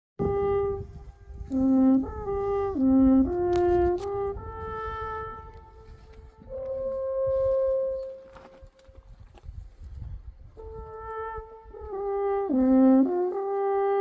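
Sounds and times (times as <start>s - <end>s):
alphorn playing slow tune: 0.2s - 9.2s, 10.6s - 14.0s.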